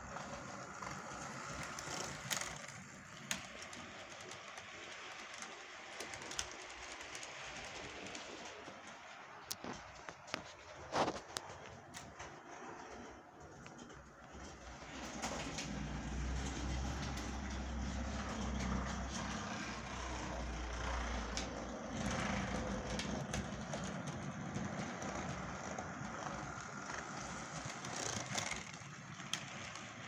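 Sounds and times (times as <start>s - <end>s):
model train motor hum: 0.0s - 10.3s, 11.9s - 30.0s
train wheel noise: 0.0s - 30.0s.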